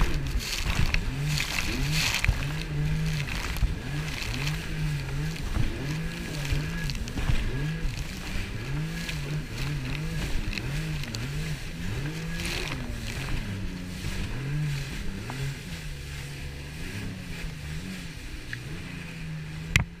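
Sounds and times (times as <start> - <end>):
wind and spray rushing: 0.0 - 19.4
jet ski engine at speed: 0.0 - 20.0.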